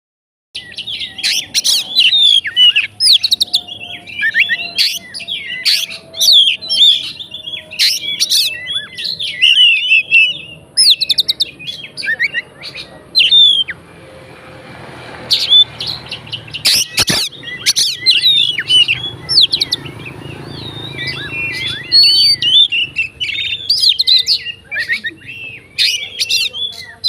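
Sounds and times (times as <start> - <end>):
bird singing chirps and whistles: 0.6 - 13.8, 15.3 - 27.0.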